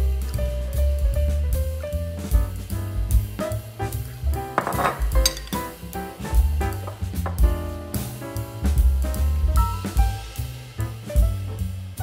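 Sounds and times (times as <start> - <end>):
music with drums and bass: 0.0 - 12.0.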